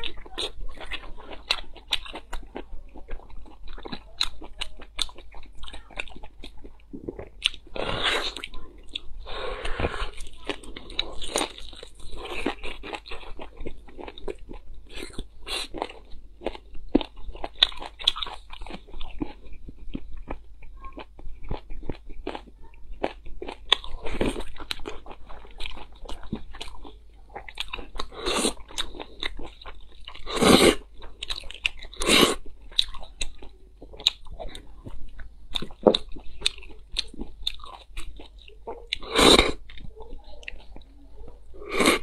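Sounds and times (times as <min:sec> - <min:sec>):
person chewing: 0:00.0 - 0:42.0.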